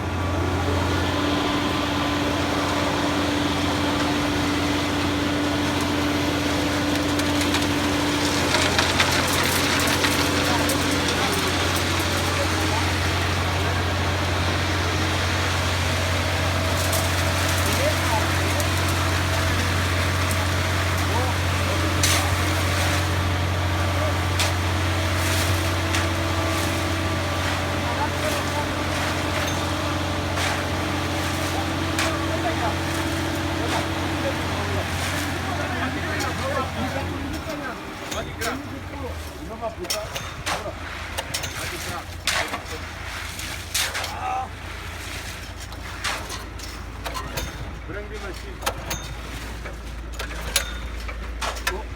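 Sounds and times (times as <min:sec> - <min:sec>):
machinery engine humming: 0:00.0 - 0:51.9.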